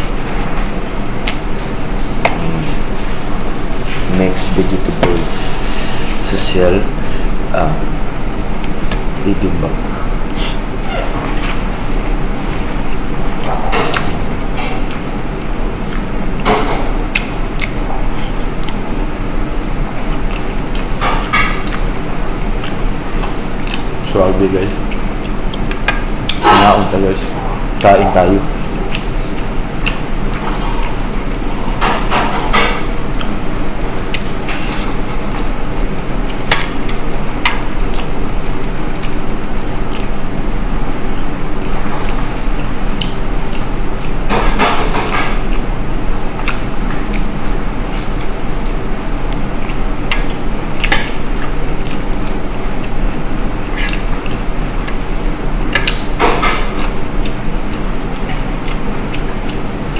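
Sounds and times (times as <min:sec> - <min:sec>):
person chewing food: 0:00.0 - 0:06.2, 0:07.3 - 0:26.7, 0:27.6 - 0:59.9
steady background hum: 0:00.0 - 0:59.9
steady background noise: 0:00.0 - 0:59.9.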